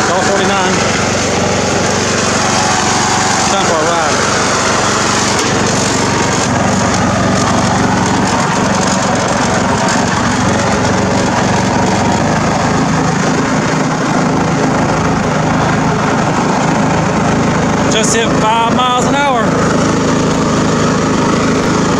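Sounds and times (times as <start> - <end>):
riding lawn mower engine running: 0.0 - 21.9.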